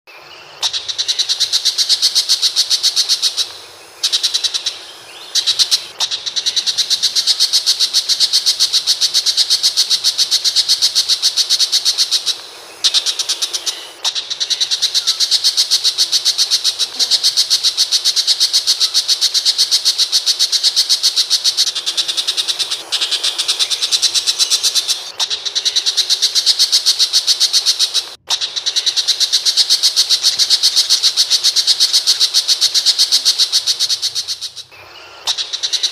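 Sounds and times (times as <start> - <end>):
bird harsh high chatter: 0.6 - 35.9.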